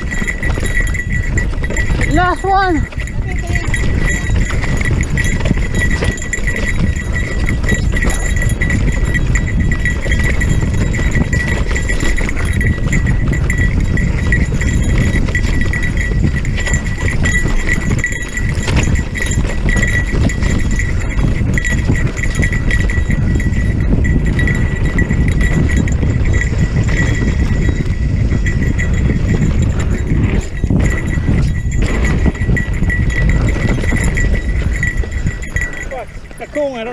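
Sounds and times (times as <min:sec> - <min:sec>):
bike rattling over rocks: 0:00.0 - 0:36.9
wind rumble on microphone: 0:00.0 - 0:36.9.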